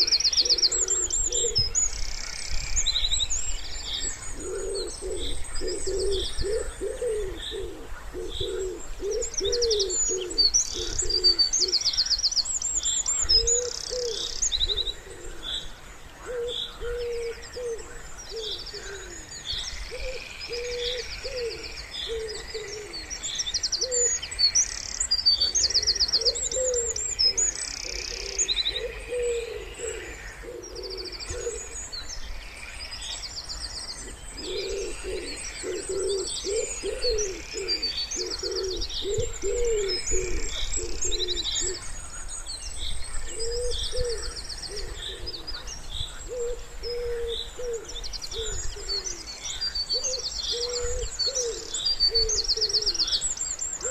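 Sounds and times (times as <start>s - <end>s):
wood pigeons cooing: 0.0s - 2.4s, 4.0s - 11.9s, 13.2s - 24.2s, 24.9s - 32.0s, 34.0s - 42.0s, 43.2s - 53.9s
songbirds chirping and trilling: 0.0s - 53.9s.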